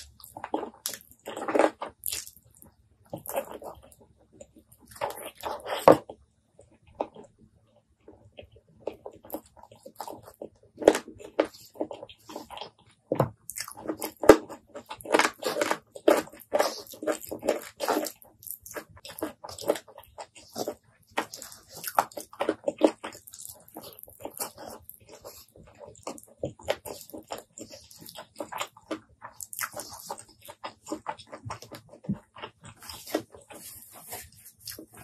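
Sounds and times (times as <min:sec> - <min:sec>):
wet chewing and lip smacking: 0:00.0 - 0:06.0, 0:08.4 - 0:35.0.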